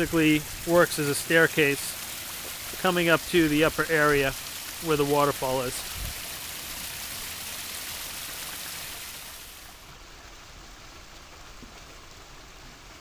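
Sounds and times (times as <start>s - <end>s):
waterfall splashing into pond: 0.0s - 13.0s.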